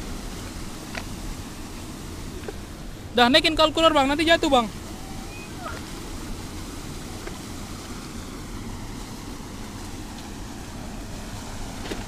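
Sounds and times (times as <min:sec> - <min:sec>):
river water rushing over cascade: 0:00.0 - 0:12.0
wind rumbling on microphone: 0:00.0 - 0:12.0.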